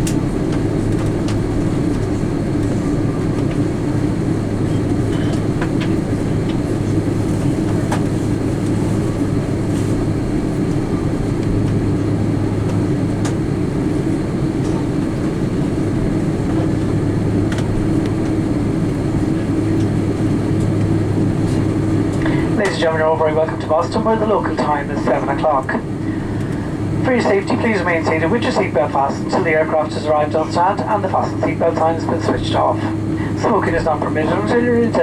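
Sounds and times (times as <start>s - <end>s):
airplane cabin rumble: 0.0s - 35.0s
engine hum: 0.0s - 35.0s.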